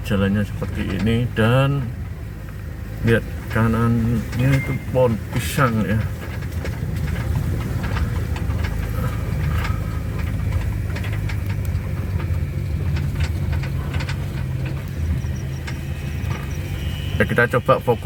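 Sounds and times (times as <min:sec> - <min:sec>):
vehicle engine and road drone: 0:00.0 - 0:18.0
small rattles and knocks: 0:00.1 - 0:18.0.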